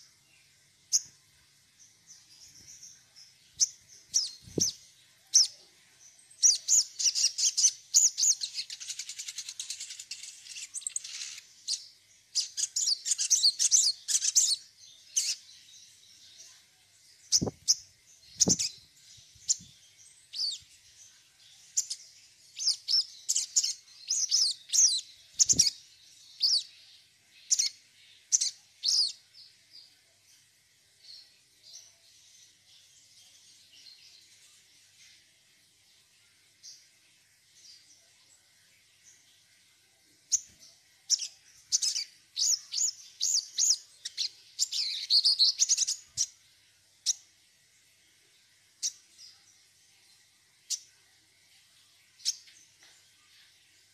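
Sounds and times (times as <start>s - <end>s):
songbird chirping and trilling: 0.0s - 53.9s.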